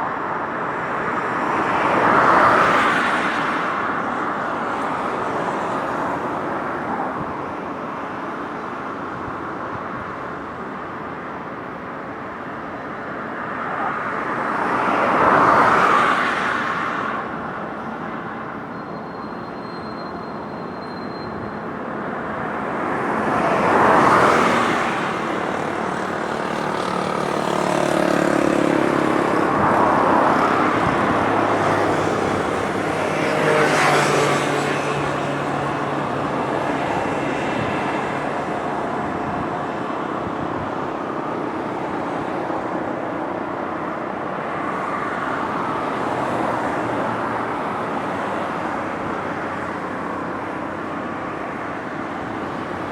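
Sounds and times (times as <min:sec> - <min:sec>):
vehicles passing close by: 0:00.0 - 0:52.9.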